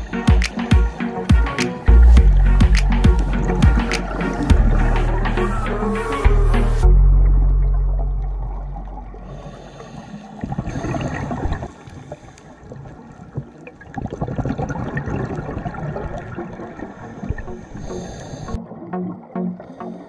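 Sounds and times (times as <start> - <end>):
underwater regulator bubbles gurgling: 0.0 - 20.0.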